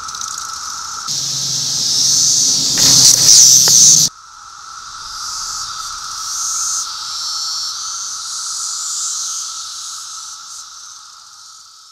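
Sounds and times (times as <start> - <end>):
cicadas buzzing chorus: 0.0 - 11.9.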